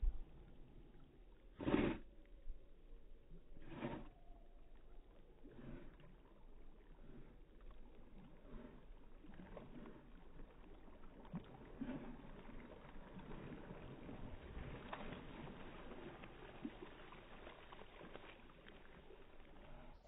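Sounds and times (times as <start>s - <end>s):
dog paddling through water: 0.0s - 20.0s.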